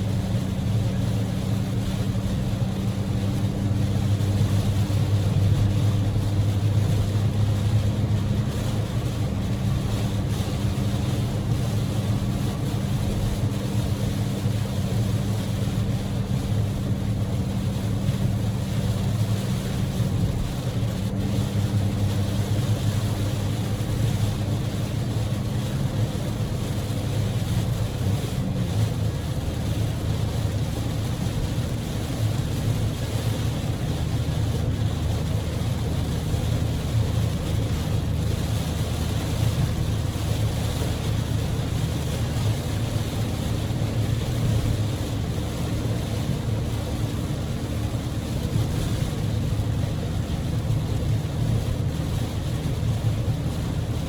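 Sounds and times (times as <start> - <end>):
car engine droning: 0.0 - 54.0
heavy rain: 0.0 - 54.0
tyre spray on wet road: 0.0 - 54.0.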